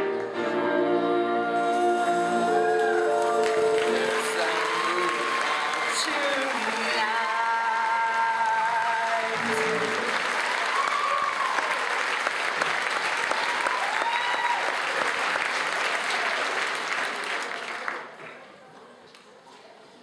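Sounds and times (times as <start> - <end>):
people cheering: 1.6 - 18.1
audience applauding: 2.0 - 18.4.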